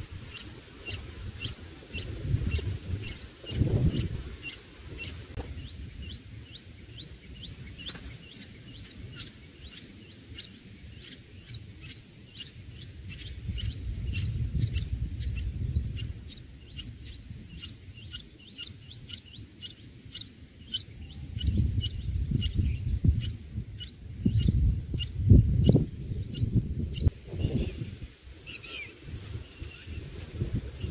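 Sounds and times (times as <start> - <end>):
nestlings begging chirps: 0.3 - 27.8.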